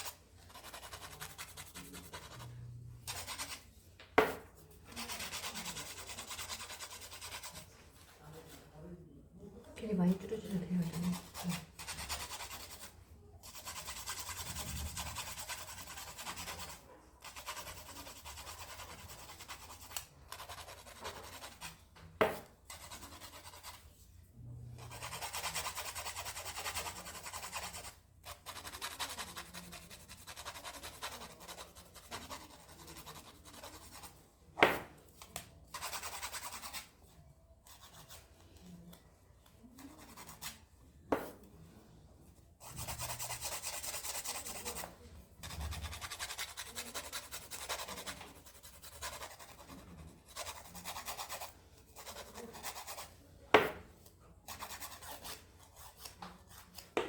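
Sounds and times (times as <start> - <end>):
tool scratching a fingernail: 0.0 - 3.7, 4.6 - 8.6, 10.8 - 24.0, 24.8 - 36.9, 39.8 - 40.6, 42.6 - 53.8, 54.5 - 56.9.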